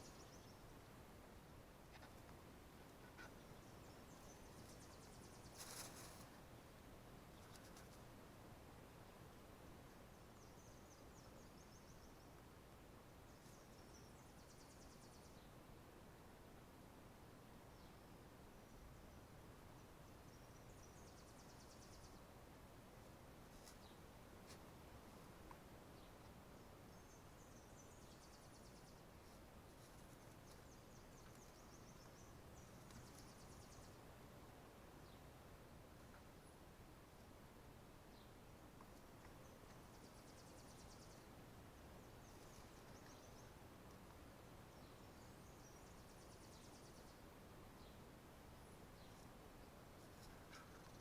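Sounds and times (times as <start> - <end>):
faint background hiss: 0.0 - 51.0
faint background noise: 0.0 - 51.0.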